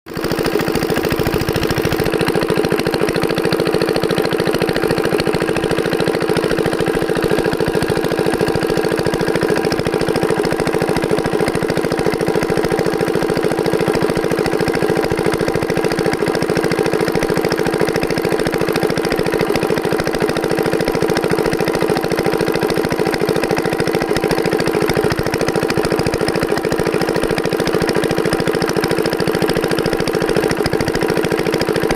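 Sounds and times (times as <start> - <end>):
diesel engine chugging: 0.1 - 31.9.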